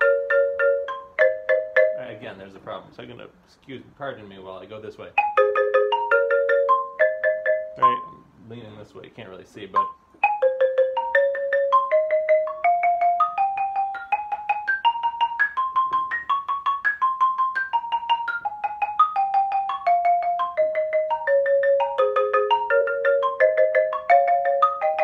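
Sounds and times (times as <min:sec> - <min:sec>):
xylophone scale exercise: 0:00.0 - 0:02.7, 0:05.1 - 0:08.4, 0:09.6 - 0:25.0.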